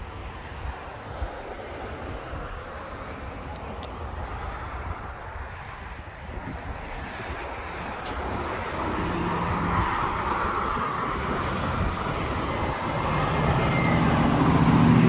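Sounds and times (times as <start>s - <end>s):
tyre and road noise: 0.0s - 15.0s
vehicle engine hum: 0.0s - 15.0s.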